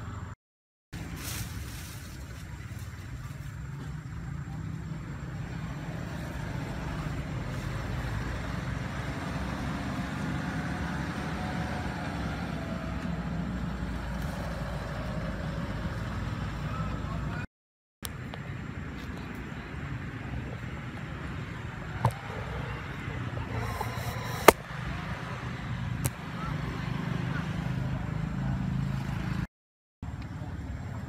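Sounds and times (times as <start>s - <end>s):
vehicle engine rumbling: 1.0s - 17.5s, 18.1s - 31.0s.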